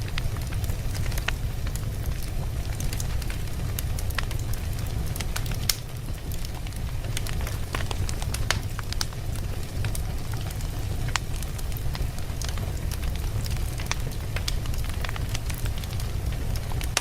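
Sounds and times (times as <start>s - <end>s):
fire rumbling: 0.0s - 17.0s
wood crackling and popping: 0.0s - 17.0s.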